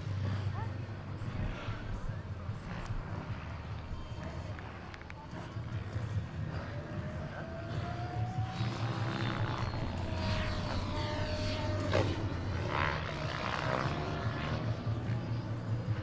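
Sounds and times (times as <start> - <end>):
model helicopter rotors droning: 0.0 - 16.0
thin motor whine: 1.5 - 16.0.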